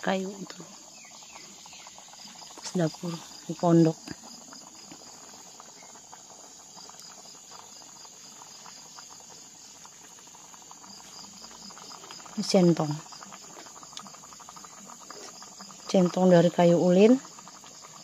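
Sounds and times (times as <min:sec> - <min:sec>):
insects trilling: 0:00.0 - 0:18.0
wood fire crackling: 0:00.0 - 0:18.0.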